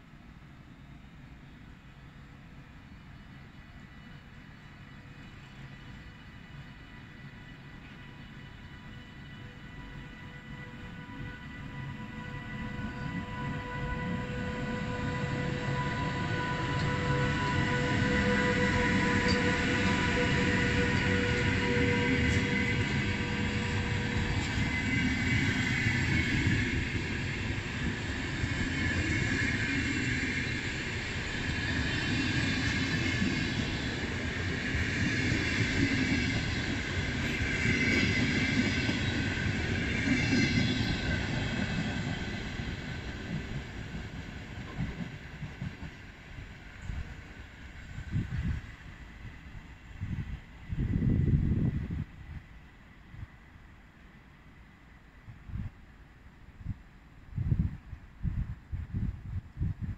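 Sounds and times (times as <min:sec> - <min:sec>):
locomotive whine: 0:00.9 - 0:55.6
train wheels rolling on rails: 0:03.1 - 0:53.0.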